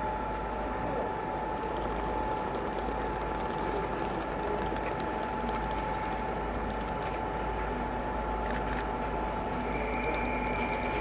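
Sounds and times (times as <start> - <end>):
constant high hum: 0.0 - 11.0
railway station background noise: 0.0 - 11.0.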